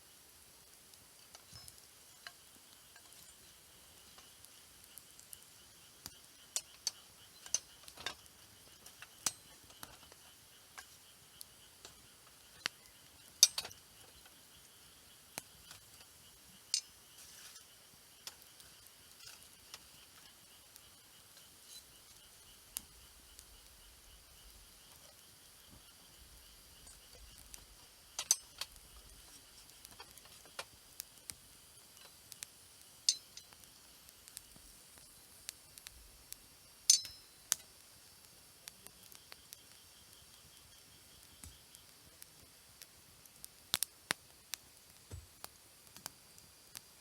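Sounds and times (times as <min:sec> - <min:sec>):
campfire crackling: 0:00.0 - 0:47.0.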